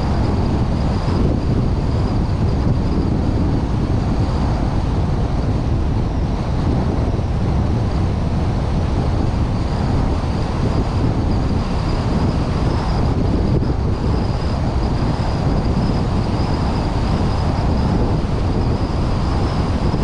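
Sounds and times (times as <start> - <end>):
car engine and tyre rumble: 0.0 - 20.0
wind buffeting microphone: 0.0 - 20.0.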